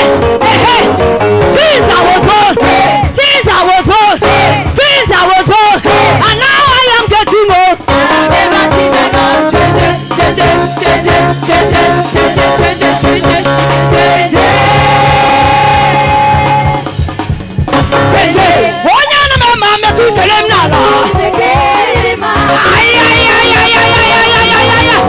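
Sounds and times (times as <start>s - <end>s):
drum kit beat: 0.0s - 25.0s
worship band music: 0.0s - 25.0s.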